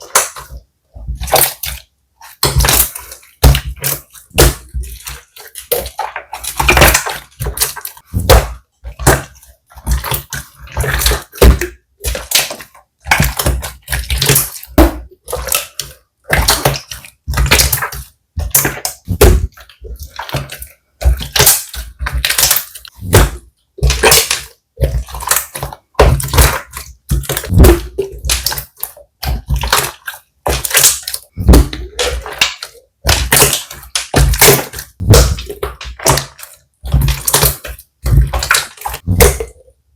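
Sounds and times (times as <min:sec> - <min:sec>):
slime squelching: 0:00.0 - 0:39.9.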